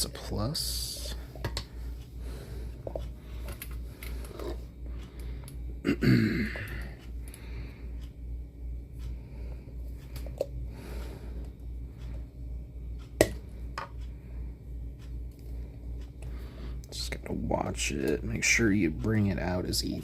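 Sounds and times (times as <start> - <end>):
low pulsing hum: 0.0 - 20.0.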